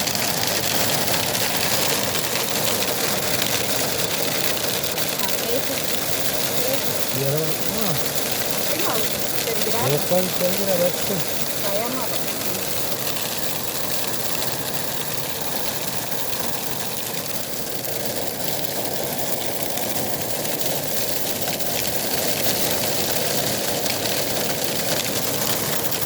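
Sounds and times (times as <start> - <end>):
rain and hail on car roof: 0.0 - 26.0.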